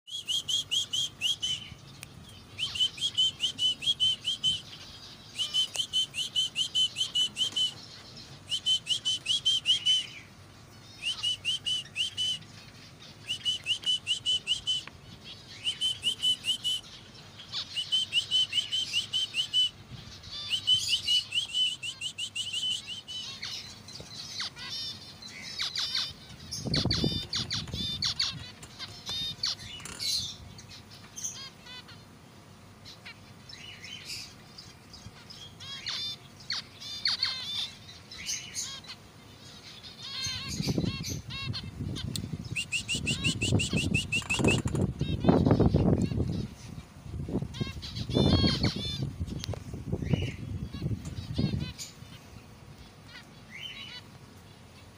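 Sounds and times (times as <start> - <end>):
finches calling: 0.1 - 54.9.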